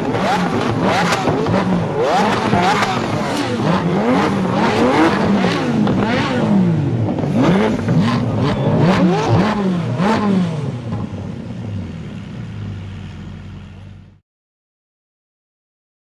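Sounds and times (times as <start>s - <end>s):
car engines revving: 0.0s - 14.2s.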